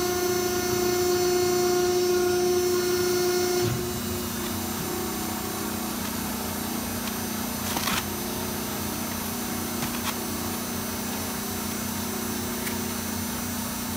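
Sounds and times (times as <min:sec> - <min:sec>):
industrial machinery humming: 0:00.0 - 0:13.9.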